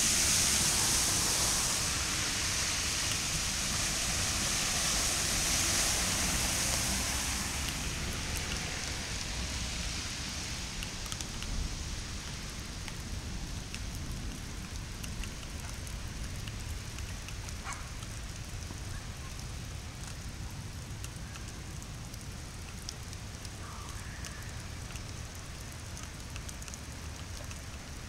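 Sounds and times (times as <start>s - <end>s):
rain falling on a street: 0.0s - 28.0s.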